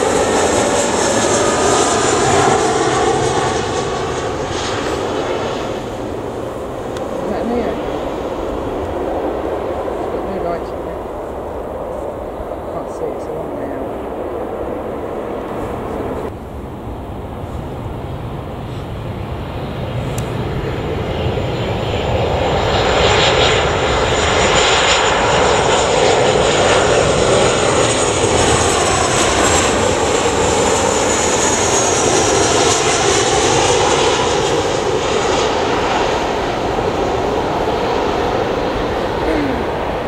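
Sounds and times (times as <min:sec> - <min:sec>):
jet airliner flying past: 0:00.0 - 0:40.0.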